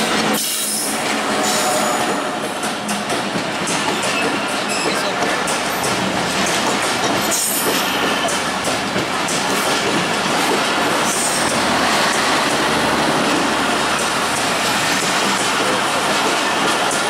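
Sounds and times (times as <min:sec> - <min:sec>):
train wheels clattering over joints: 0:00.0 - 0:17.0.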